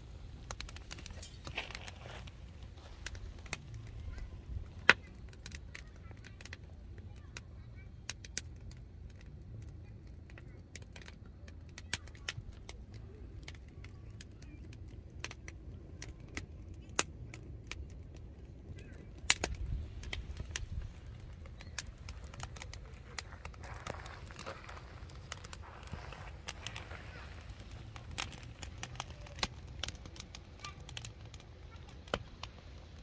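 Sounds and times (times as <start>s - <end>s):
firewood crackling and popping: 0.0s - 33.0s.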